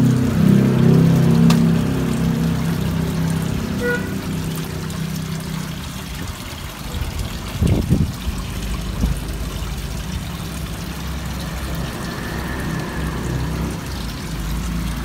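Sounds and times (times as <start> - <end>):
fish splashing: 0.0 - 15.0
water pouring into pond: 0.0 - 15.0.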